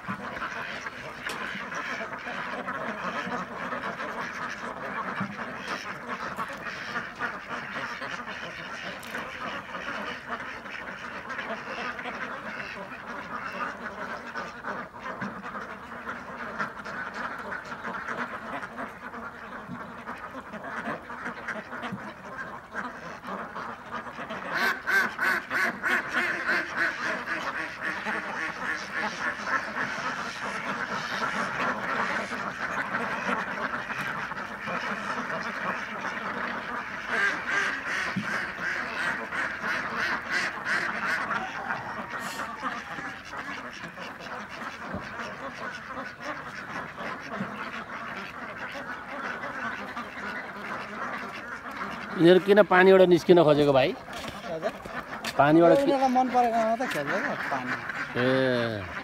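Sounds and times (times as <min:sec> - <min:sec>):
flock of ducks quacking: 0:00.0 - 0:59.0.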